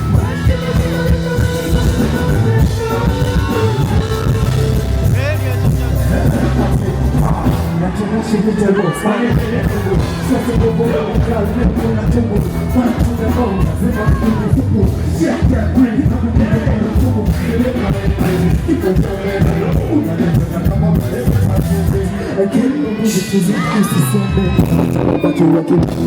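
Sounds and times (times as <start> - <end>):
loud music with heavy beat: 0.0 - 26.0
person singing: 0.0 - 26.0.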